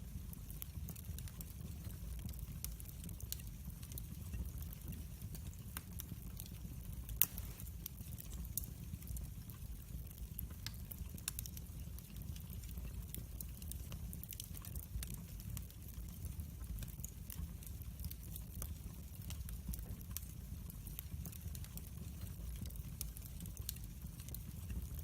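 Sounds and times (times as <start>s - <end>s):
log fire crackling and popping: 0.0s - 25.0s.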